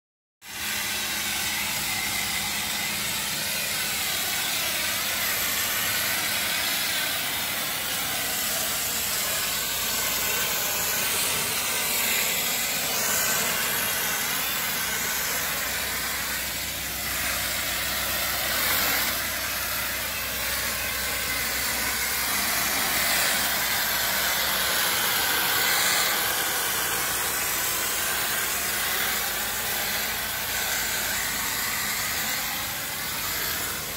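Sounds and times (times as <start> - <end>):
water spray gun hissing: 0.4 - 33.9.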